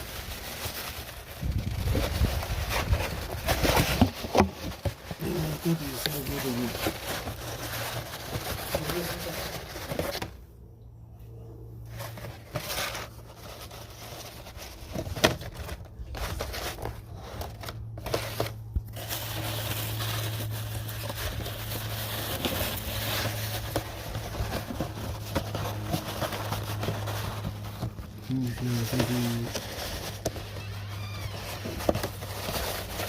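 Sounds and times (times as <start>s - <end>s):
cardboard and cloth crinkling: 0.0s - 10.5s, 11.8s - 33.0s.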